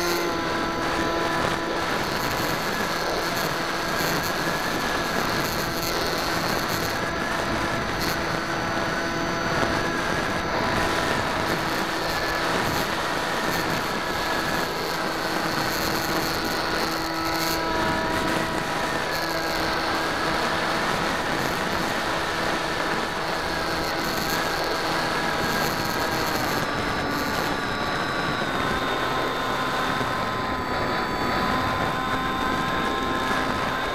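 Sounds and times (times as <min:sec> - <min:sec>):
electric motor and propeller whine: 0:00.0 - 0:33.9
wind rush: 0:00.0 - 0:33.9.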